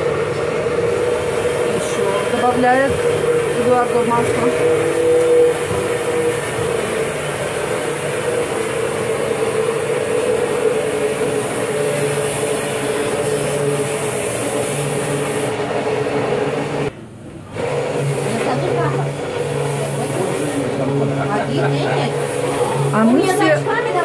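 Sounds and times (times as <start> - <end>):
stick blender whirring: 0.0 - 24.0.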